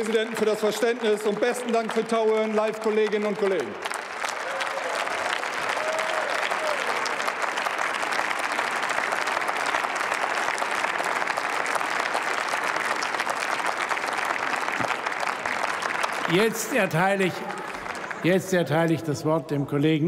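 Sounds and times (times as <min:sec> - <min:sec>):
crowd applause: 0:00.0 - 0:19.4.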